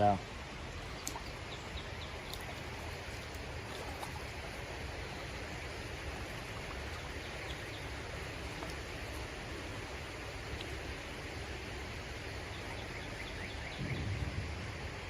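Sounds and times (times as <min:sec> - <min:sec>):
creek water hissing: 0:00.0 - 0:15.0.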